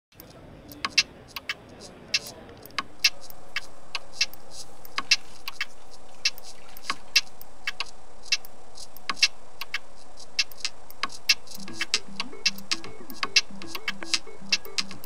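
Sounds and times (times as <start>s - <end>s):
sharp irregular clicks: 0.1s - 15.0s
steady hiss: 1.8s - 15.0s.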